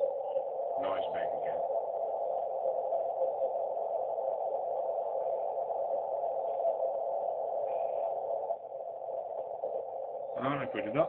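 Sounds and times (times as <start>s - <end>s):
narrow band radio hiss: 0.0s - 11.0s.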